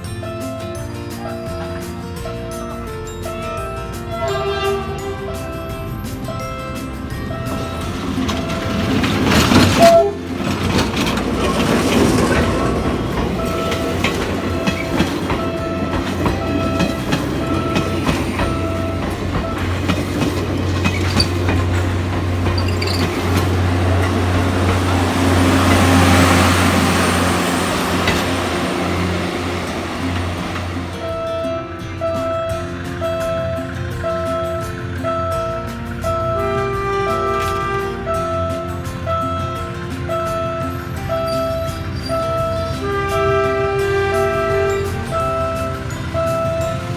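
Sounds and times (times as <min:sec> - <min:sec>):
diesel train engine hum: 0:00.0 - 0:46.9
train wheels rolling on rails: 0:03.2 - 0:46.9.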